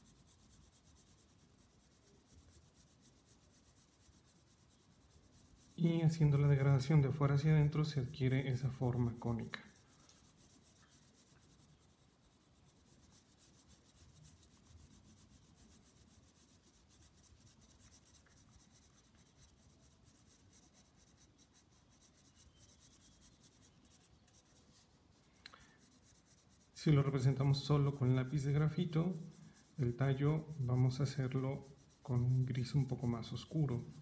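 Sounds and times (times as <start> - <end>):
pencil scratching on paper: 0.0 - 34.0.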